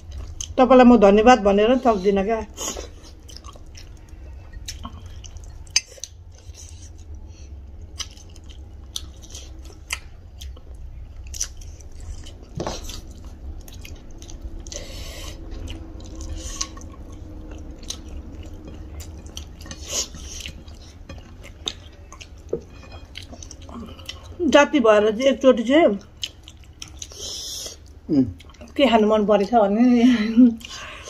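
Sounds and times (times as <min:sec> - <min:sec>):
chewing and lip smacks: 0:00.0 - 0:00.6, 0:02.6 - 0:24.4, 0:26.0 - 0:28.8
steady low hum: 0:00.0 - 0:31.0.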